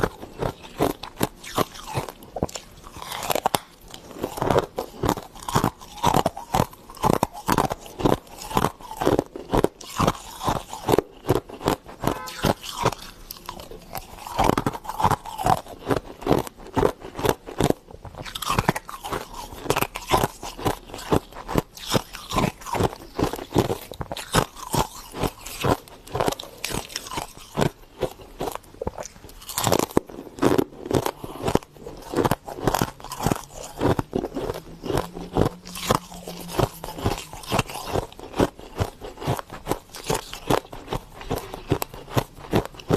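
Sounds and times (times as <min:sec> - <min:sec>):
frost being crunched and chewed: 0:00.0 - 0:42.9.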